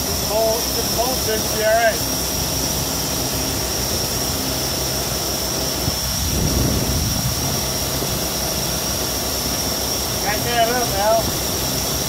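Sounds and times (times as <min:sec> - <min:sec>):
high hiss: 0:00.0 - 0:12.0.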